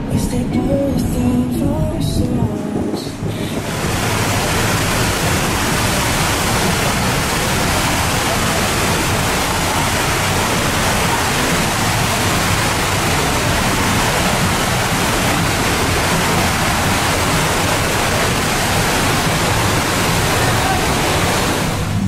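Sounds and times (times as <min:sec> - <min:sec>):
pumped water rushing: 0:03.2 - 0:22.0.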